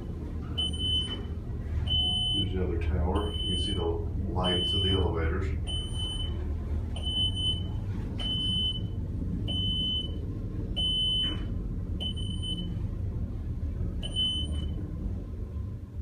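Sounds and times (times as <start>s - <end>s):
elevator car rumble: 0.0s - 16.0s.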